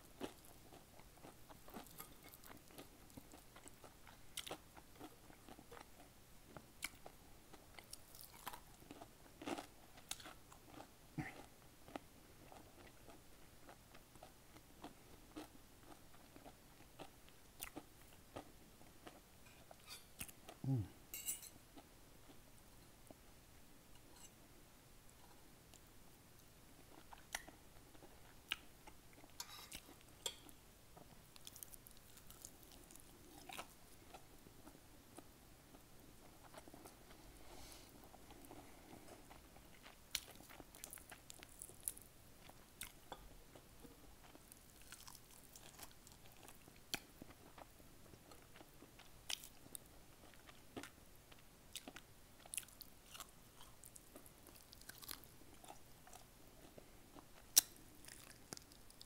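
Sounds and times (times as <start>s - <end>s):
person chewing: 0.2s - 20.9s, 26.8s - 59.0s.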